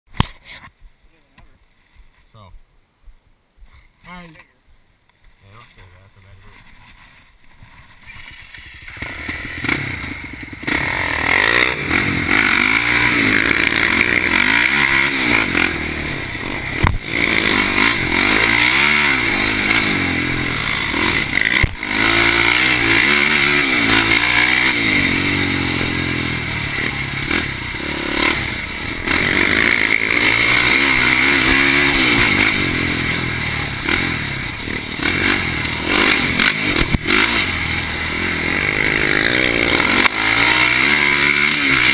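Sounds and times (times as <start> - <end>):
quad engine revving: 8.3 - 41.9.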